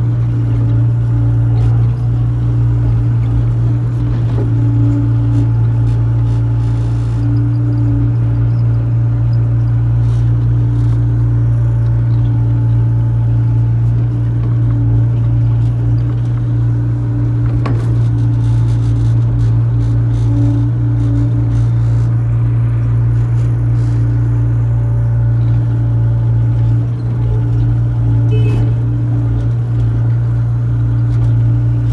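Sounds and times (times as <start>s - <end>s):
excavator diesel engine humming: 0.0s - 31.9s.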